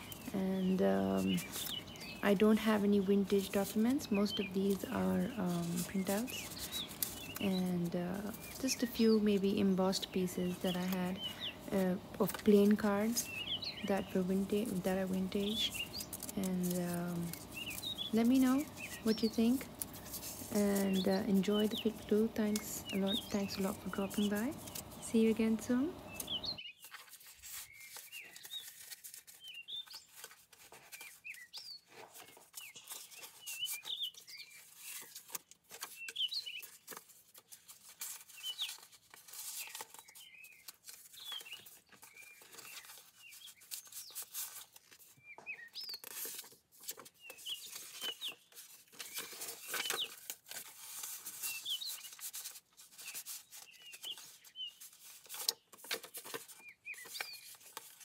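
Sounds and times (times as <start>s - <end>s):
paper rustling and crinkling: 0.0s - 58.0s
small birds chirping: 0.0s - 58.0s.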